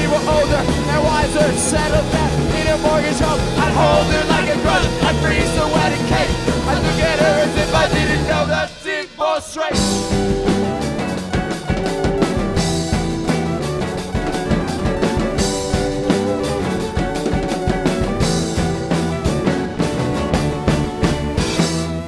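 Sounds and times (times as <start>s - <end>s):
rock band playing live: 0.0s - 8.9s, 9.7s - 22.0s.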